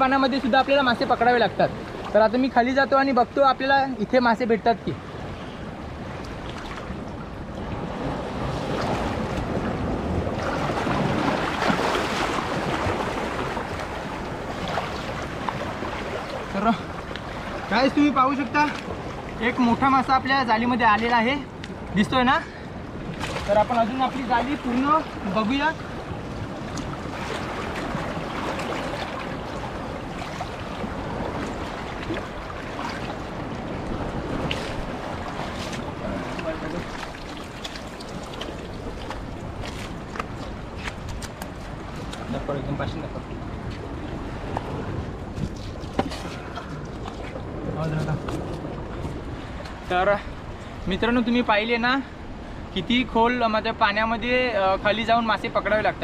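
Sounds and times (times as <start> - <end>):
water sloshing and splashing: 0.0 - 3.6, 4.8 - 20.2, 20.8 - 50.8.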